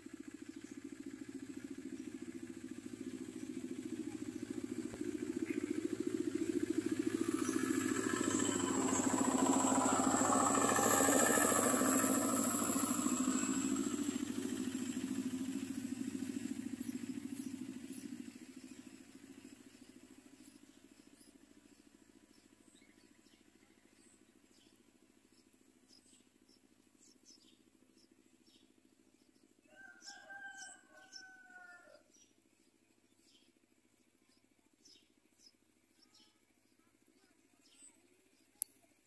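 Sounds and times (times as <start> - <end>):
motorcycle passing by: 0.0 - 32.3.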